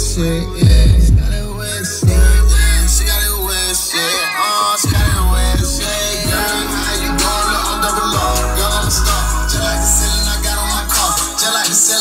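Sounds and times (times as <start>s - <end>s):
music with heavy bass: 0.0s - 12.0s.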